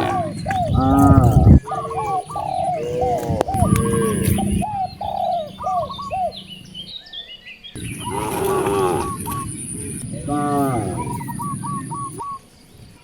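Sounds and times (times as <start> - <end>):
birds calling: 0.0 - 13.0
lower bird call: 0.0 - 13.0.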